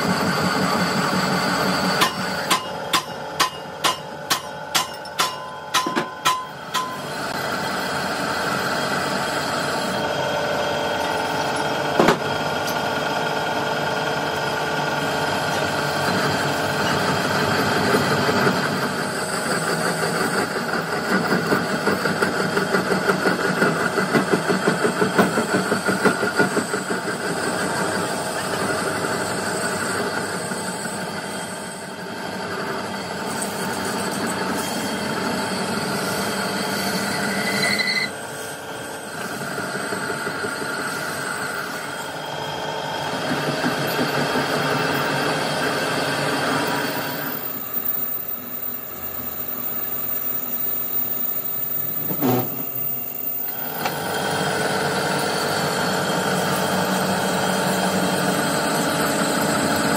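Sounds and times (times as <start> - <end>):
workshop machinery running: 0.0 - 59.9.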